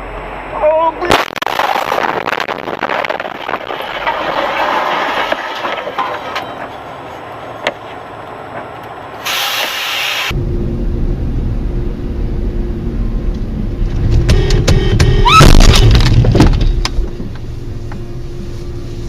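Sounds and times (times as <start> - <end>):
vehicle driving rush: 1.5 - 19.0.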